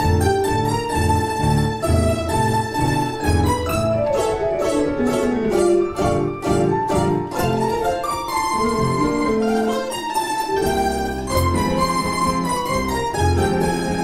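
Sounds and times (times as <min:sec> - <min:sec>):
backing track: 0:00.0 - 0:14.0
plucked string melody: 0:00.0 - 0:14.0.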